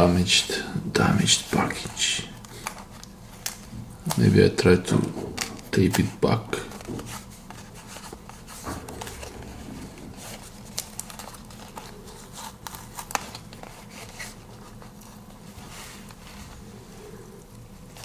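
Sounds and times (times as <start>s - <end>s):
package rustling: 1.2s - 18.0s.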